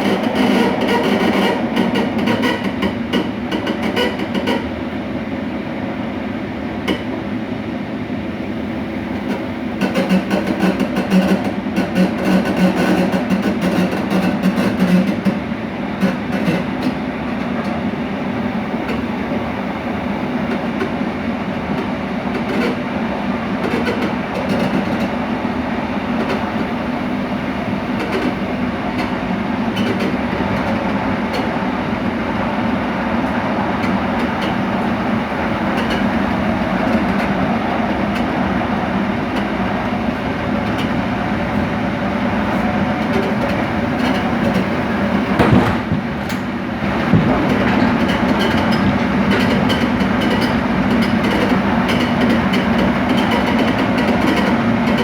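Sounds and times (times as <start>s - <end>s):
train rolling noise: 0.0s - 55.0s.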